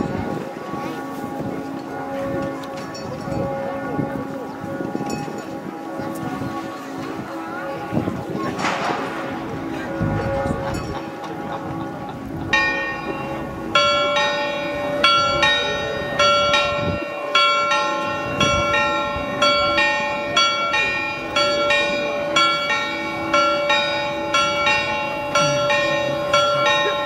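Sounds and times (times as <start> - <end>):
church bells ringing: 0.0 - 27.0.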